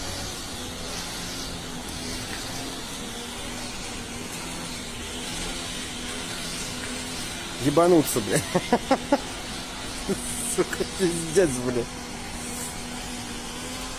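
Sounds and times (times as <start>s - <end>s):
string trimmer engine idling: 0.0s - 13.9s.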